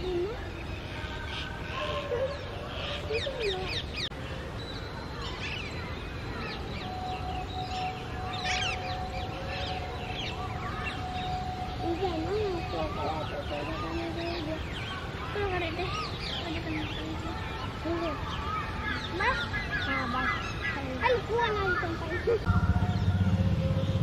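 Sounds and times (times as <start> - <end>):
birds chirping and whistling: 0.0 - 24.0.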